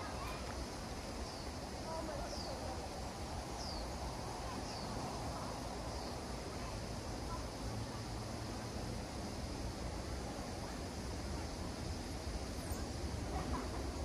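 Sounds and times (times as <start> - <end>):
outdoor hiss and rumble: 0.0 - 14.0.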